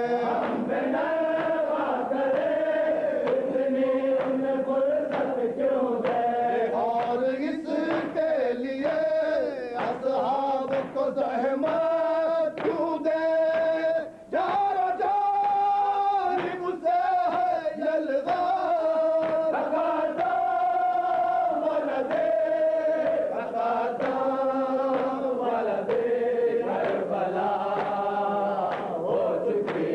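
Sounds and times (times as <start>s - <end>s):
men chanting a lament in chorus: 0.0s - 29.9s.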